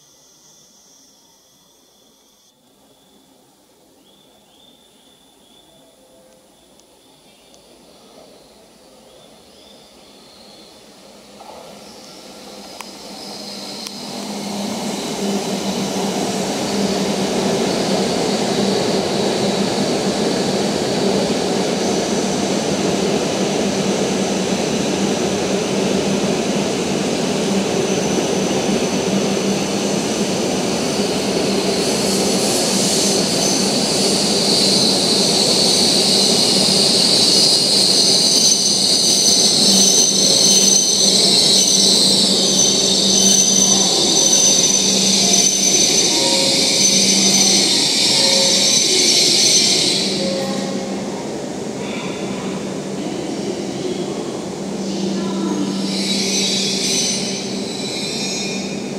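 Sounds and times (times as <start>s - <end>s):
train brakes squealing: 0.0s - 23.5s, 24.2s - 58.9s.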